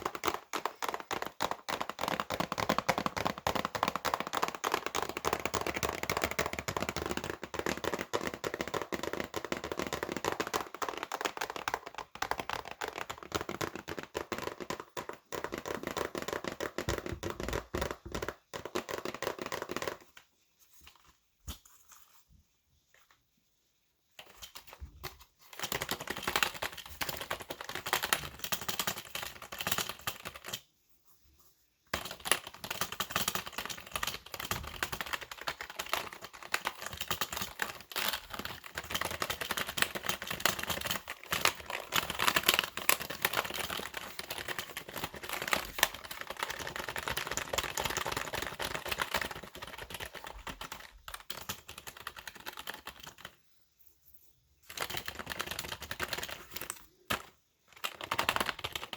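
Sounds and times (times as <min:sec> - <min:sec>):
fast typing on keyboard: 0:00.0 - 0:20.2, 0:24.2 - 0:30.6, 0:31.9 - 0:53.4, 0:54.6 - 0:58.9.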